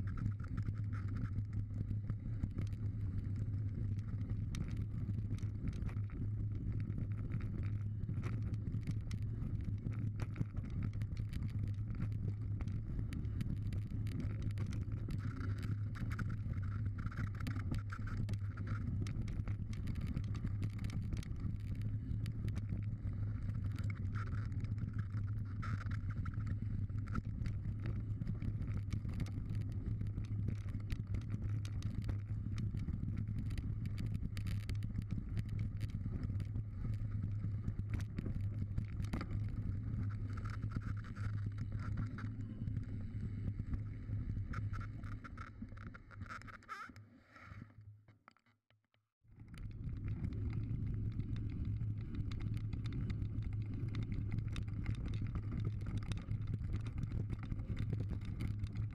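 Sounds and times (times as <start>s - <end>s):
bike tyres rumbling on gravel: 0.0s - 46.2s, 49.4s - 58.9s.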